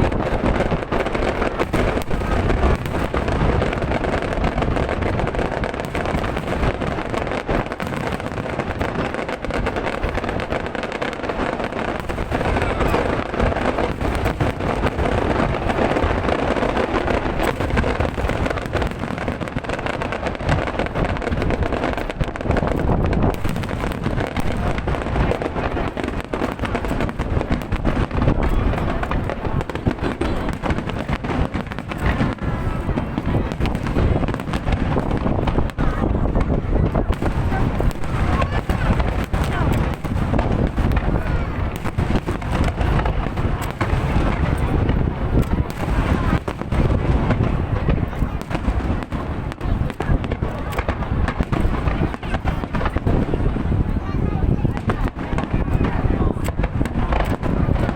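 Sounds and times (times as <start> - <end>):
fireworks bangs and crackling: 0.0 - 57.9.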